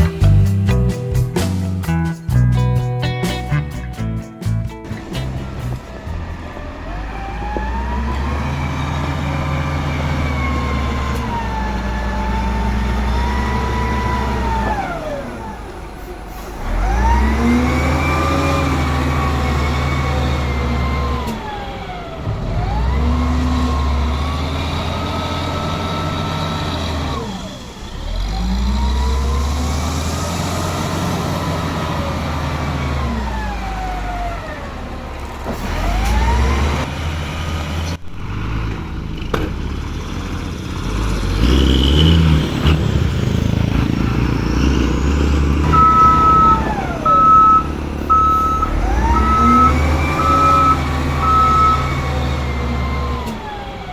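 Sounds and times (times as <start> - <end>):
diesel truck engine shifting gears: 0.0 - 53.9.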